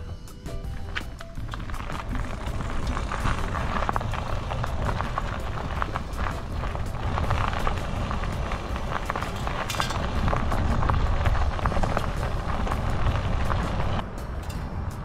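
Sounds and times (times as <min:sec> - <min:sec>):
tyres crunching on gravel: 0:00.0 - 0:15.0
wind buffeting microphone: 0:00.7 - 0:15.0.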